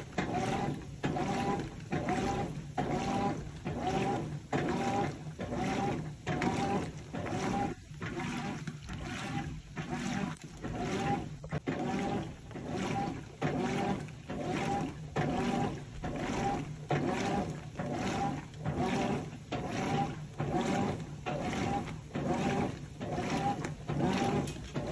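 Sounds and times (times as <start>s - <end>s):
washing machine agitator swishing water: 0.0s - 24.9s.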